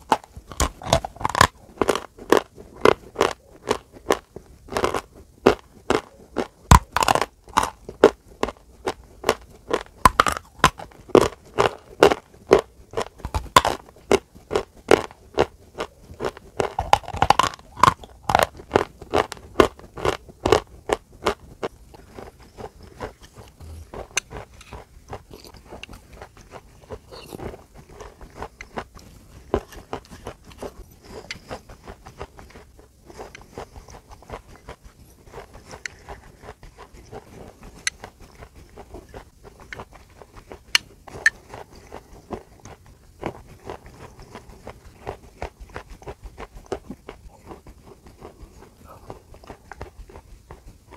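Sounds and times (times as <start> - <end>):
chewing chalk crunches: 0.0 - 50.9.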